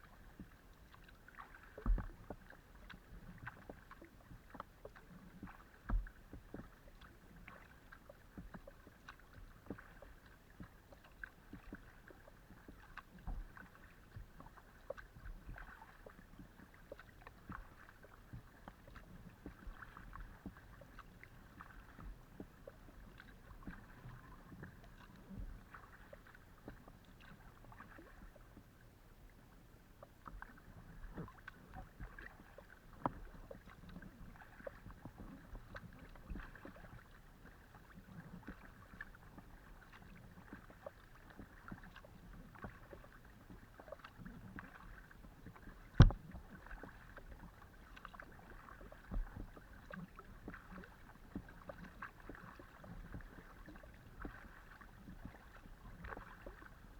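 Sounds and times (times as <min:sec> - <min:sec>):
paddle dipping in water: 0:00.0 - 0:56.9
water splashing against hull: 0:00.0 - 0:56.9
small ticks and knocks: 0:00.1 - 0:28.7, 0:30.0 - 0:37.1, 0:38.3 - 0:54.5.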